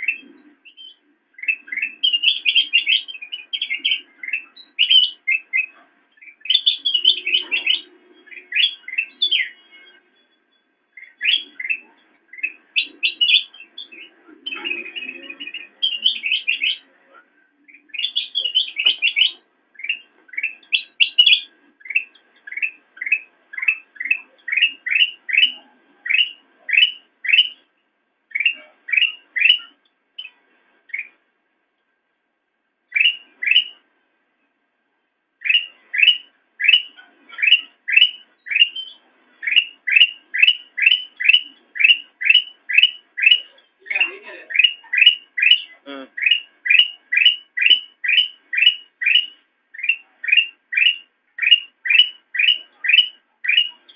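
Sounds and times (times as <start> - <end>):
songbird calling sharp notes: 0.0 - 31.3, 32.9 - 34.6, 35.4 - 53.9.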